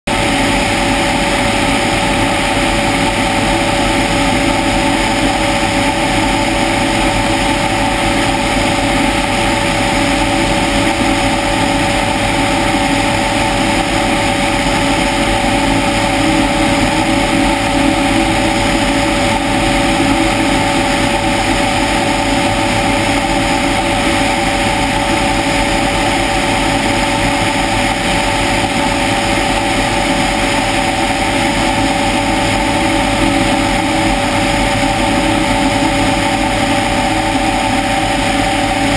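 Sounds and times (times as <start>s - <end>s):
helicopter flying: 0.1s - 38.9s.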